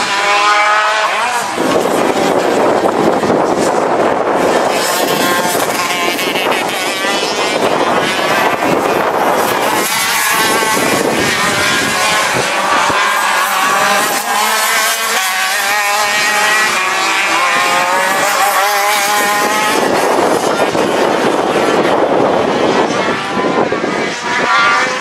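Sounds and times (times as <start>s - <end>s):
kart engines revving: 0.0s - 25.0s.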